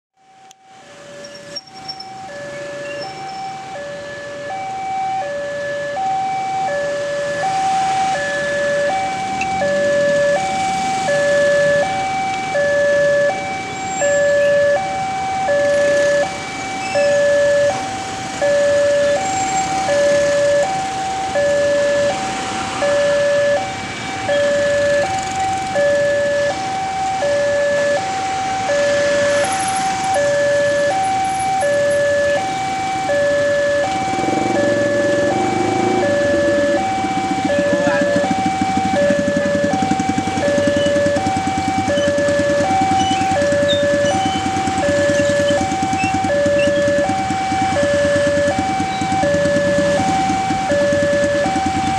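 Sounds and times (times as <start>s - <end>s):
motorcycle and car traffic: 0.2s - 51.9s
two-tone crossing alarm chime: 0.2s - 51.9s.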